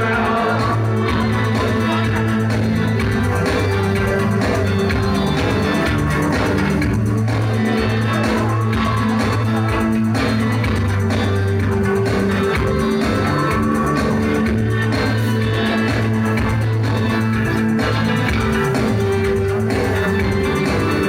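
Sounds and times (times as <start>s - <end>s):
live rock band: 0.0s - 21.0s.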